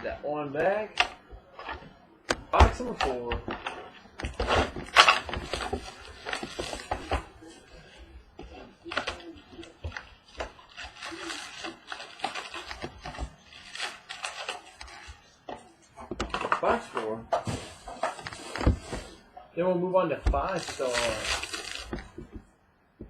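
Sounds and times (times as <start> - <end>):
cardboard and wrapper taps and rustles: 0.6 - 19.2, 20.3 - 22.5.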